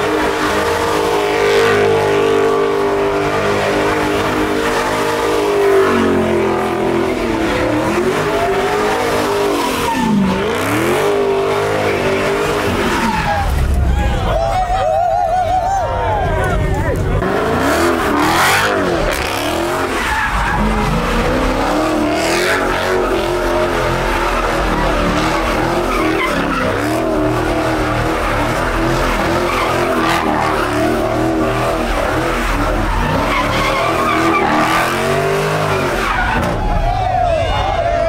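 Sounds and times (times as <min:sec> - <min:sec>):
car engine revving high: 0:00.0 - 0:13.8, 0:17.2 - 0:36.6
tires squealing: 0:00.0 - 0:38.0.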